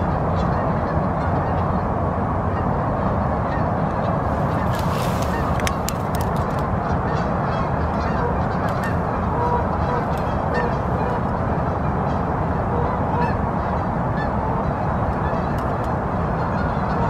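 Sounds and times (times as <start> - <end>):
geese honking: 0.0 - 1.9, 2.5 - 17.0
rushing background noise: 0.0 - 17.0.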